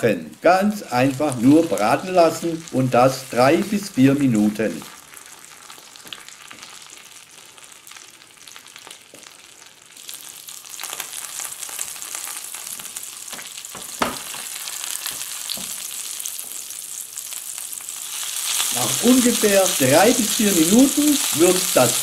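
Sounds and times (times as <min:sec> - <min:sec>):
fish sizzling in oil: 0:01.1 - 0:22.0.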